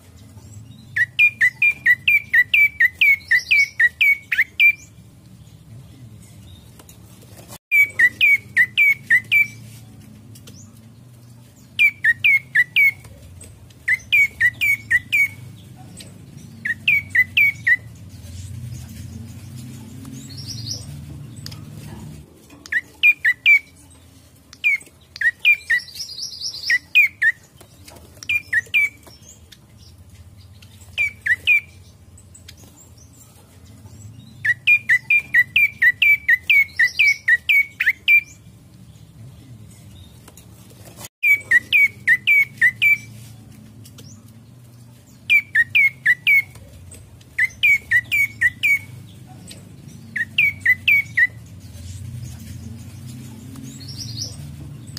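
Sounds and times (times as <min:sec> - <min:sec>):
buzzy bird phrases: 0:00.2 - 0:40.2, 0:40.9 - 0:43.5, 0:44.2 - 0:54.9.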